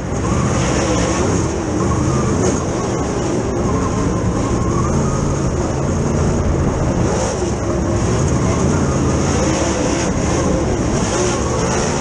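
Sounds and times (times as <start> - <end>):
other race cars running: 0.0 - 12.0
race car engine revving: 0.0 - 12.0.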